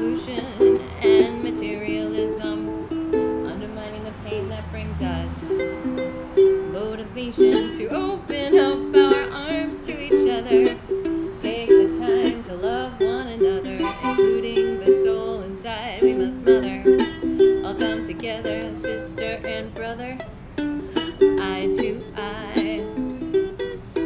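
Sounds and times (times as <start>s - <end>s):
ukulele strumming: 0.0s - 24.0s.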